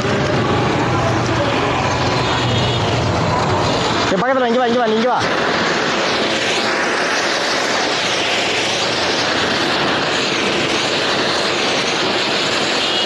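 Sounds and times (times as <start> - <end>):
firework fountains hissing: 0.0 - 13.0.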